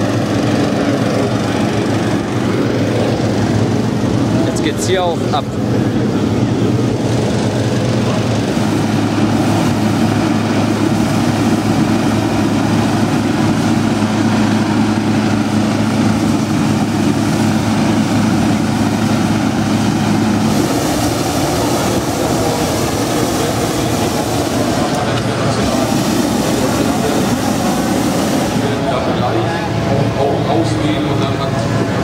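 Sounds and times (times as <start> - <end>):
inflator fan engine running: 0.0 - 32.0
propane burner blast: 0.0 - 32.0.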